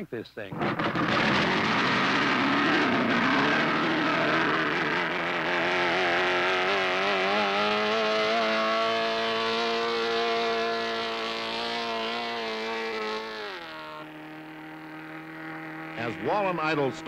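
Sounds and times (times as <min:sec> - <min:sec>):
outboard engine running: 0:00.5 - 0:17.0.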